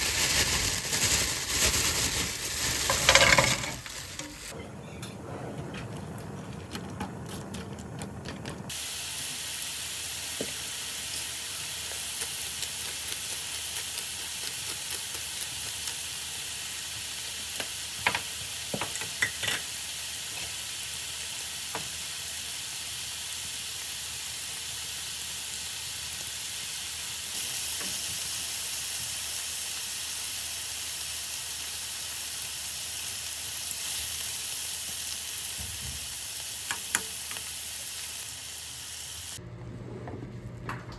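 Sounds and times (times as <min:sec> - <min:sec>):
food sizzling in a frying pan: 0:00.0 - 0:04.6, 0:08.7 - 0:39.4.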